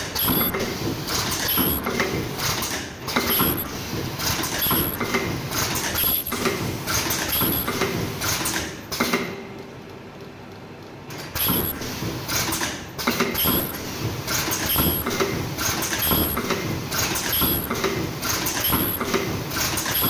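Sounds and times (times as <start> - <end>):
machine clattering strokes: 0.0 - 9.1, 11.2 - 20.0
mechanical hum: 0.0 - 20.0.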